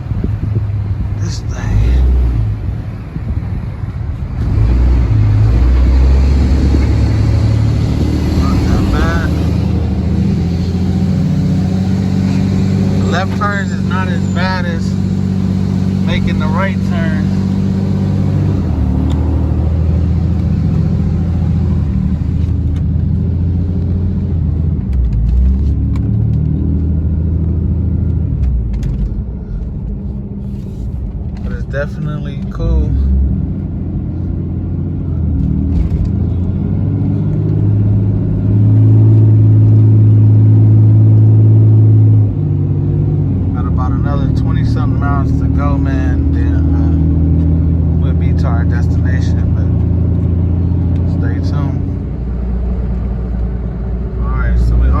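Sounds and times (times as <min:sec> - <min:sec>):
pickup truck engine drone: 0:00.0 - 0:55.0
road and wind noise: 0:00.0 - 0:55.0.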